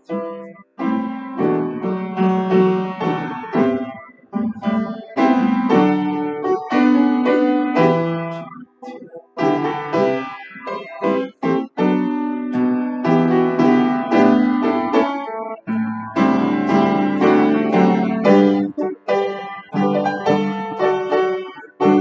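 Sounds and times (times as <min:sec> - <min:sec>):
upright piano playing chords: 0:00.0 - 0:22.0.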